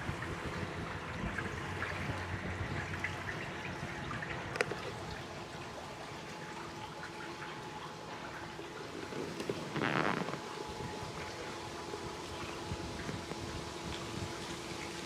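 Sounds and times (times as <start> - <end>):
faint steady hum: 0.0 - 15.0
water lapping around boat: 0.0 - 15.0.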